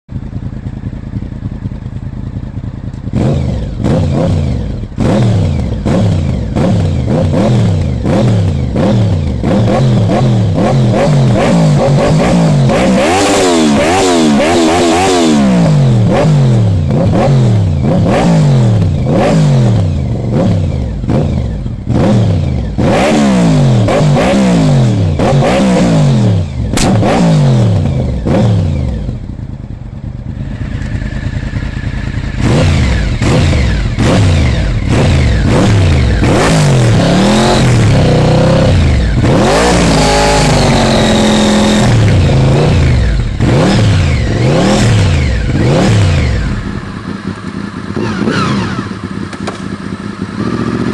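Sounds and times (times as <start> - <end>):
motorcycle engine revving: 0.1 - 50.9.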